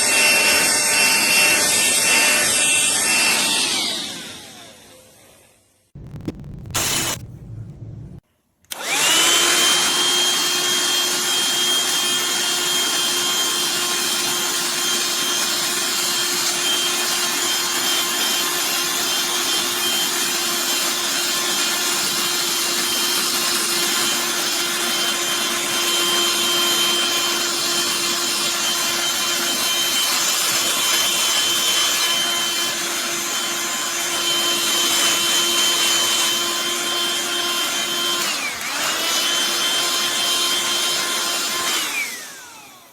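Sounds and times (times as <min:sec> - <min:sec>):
handheld vacuum whining: 0:00.0 - 0:05.6, 0:06.8 - 0:07.2, 0:08.7 - 0:42.9.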